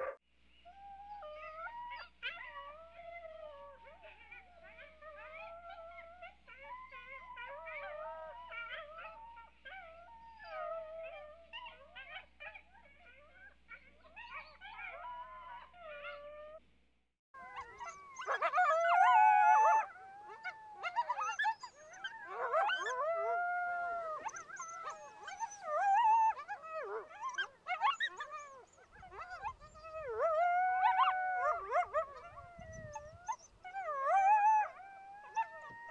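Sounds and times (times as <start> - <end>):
coyotes howling and yipping: 0.0 - 16.6, 17.4 - 35.9.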